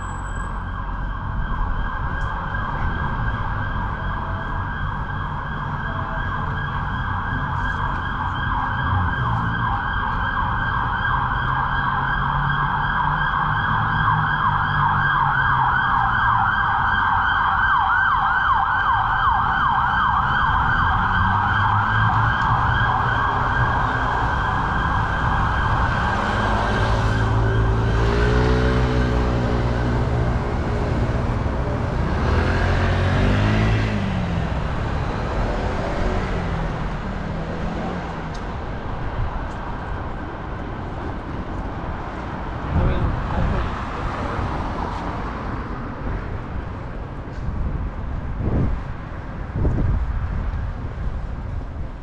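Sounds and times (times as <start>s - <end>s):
emergency vehicle siren wailing: 0.0s - 50.8s
city traffic rumble: 0.0s - 52.0s.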